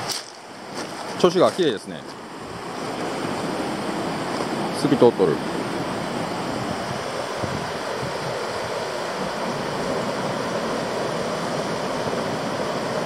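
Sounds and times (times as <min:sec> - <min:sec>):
river flowing over rocks: 0:00.0 - 0:04.8, 0:05.4 - 0:13.0.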